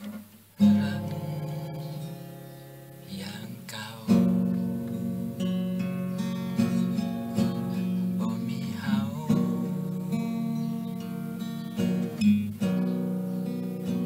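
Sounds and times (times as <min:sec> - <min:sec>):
song with strummed acoustic guitar: 0:00.0 - 0:14.0.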